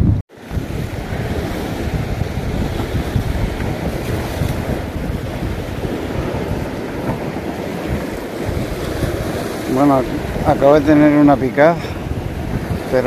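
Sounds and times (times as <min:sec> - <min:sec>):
sea surf washing against rocks: 0:00.0 - 0:13.0
wind rumbling on microphone: 0:00.0 - 0:13.0.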